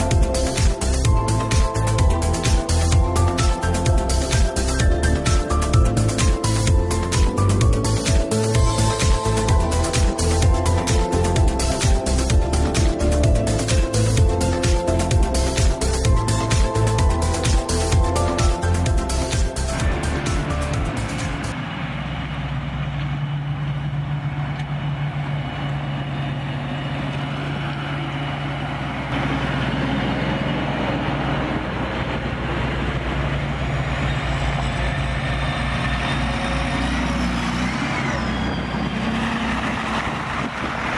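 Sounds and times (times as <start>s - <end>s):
diesel harvester driving by: 0.0s - 40.9s
tractor pulling a trailer: 0.0s - 40.9s.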